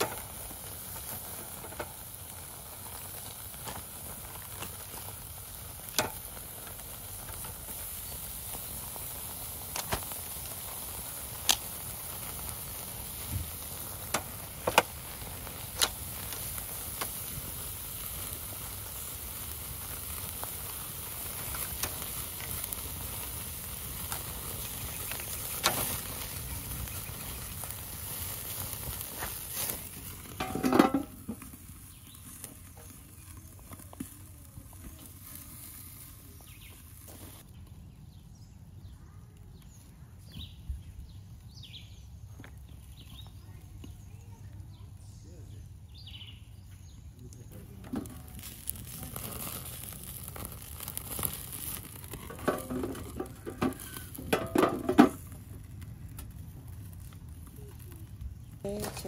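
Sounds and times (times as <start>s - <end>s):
meat sizzling on a grill: 0.0s - 38.5s, 39.6s - 59.0s
fat popping on coals: 0.0s - 59.0s
fire crackling: 0.0s - 59.0s.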